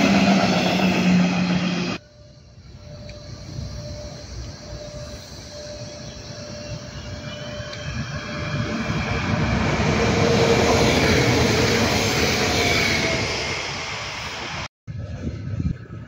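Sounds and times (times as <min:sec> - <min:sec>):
train wheels rumbling on rails: 0:00.0 - 0:15.2
faint train whine: 0:00.0 - 0:16.0.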